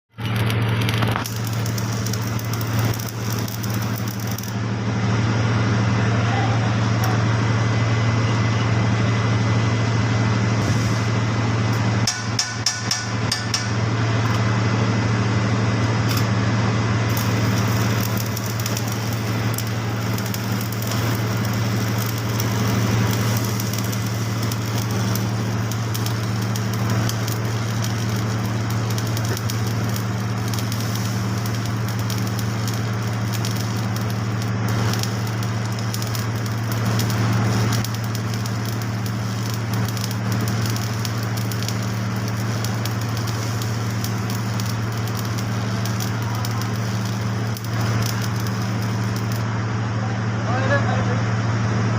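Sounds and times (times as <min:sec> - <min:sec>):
arc welding crackling sizzle: 0:00.0 - 0:04.9, 0:10.3 - 0:14.8, 0:15.4 - 0:49.9
welding machine hum: 0:00.0 - 0:51.9.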